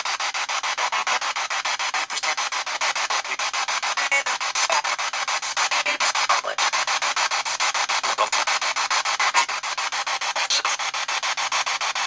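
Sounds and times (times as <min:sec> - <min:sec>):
chopping radio static: 0:00.0 - 0:12.0.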